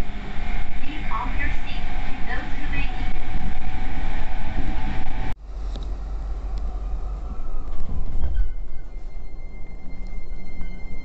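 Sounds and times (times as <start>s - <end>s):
faint whine rising and falling: 0.0s - 11.0s
train rumble from on board: 0.0s - 11.0s.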